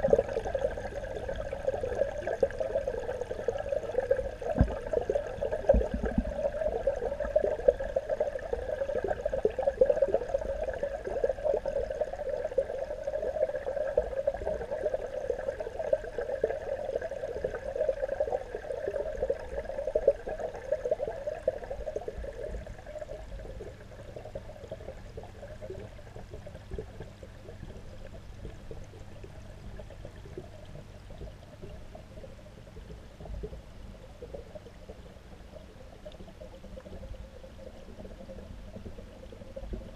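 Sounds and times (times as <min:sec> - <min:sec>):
low steady hum: 0:00.0 - 0:39.9
muffled underwater water rushing: 0:00.0 - 0:39.9.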